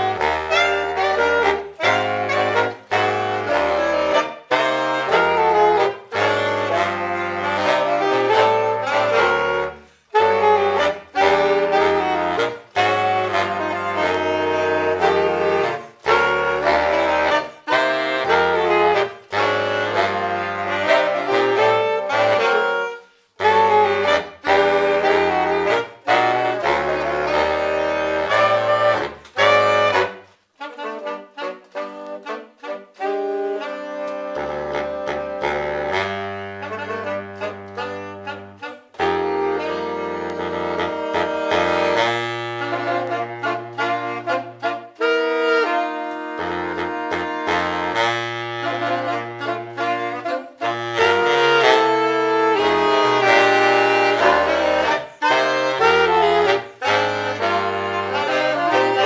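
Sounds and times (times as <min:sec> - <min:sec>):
saxophone quartet playing jazz: 0:00.0 - 0:59.0.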